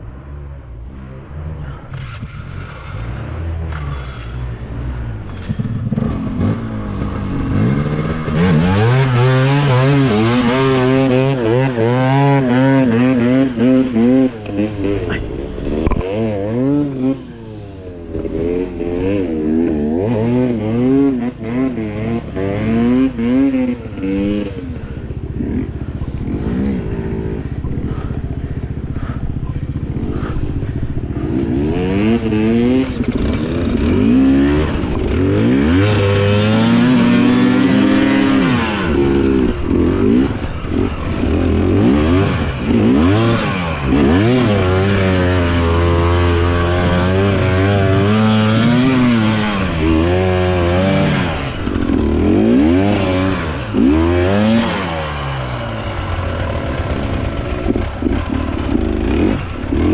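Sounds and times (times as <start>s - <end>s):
dirt bike engine revving: 0.8s - 59.9s.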